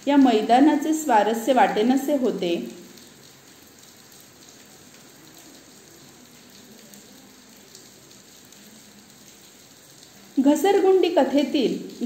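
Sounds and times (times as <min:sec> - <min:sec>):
faint recording hiss: 0:00.0 - 0:12.0.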